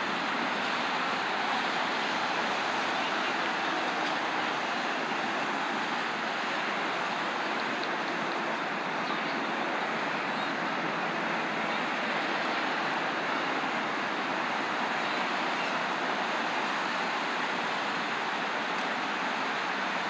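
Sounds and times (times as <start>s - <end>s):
distant traffic: 0.0s - 20.0s.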